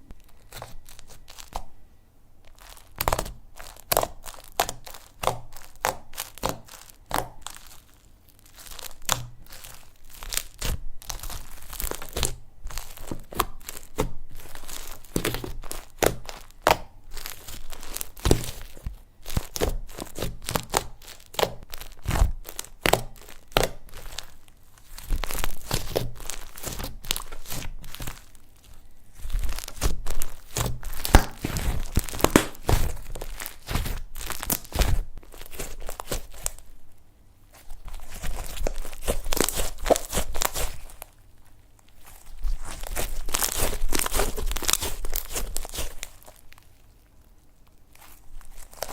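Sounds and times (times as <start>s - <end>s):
slime crackling and popping: 0.2s - 1.8s, 2.4s - 36.8s, 37.6s - 48.9s.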